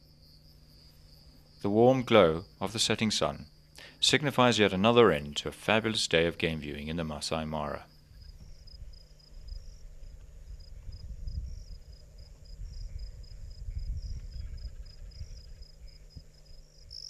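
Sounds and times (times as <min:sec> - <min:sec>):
crickets chirping: 0:00.0 - 0:17.0
steady hum: 0:00.0 - 0:17.0.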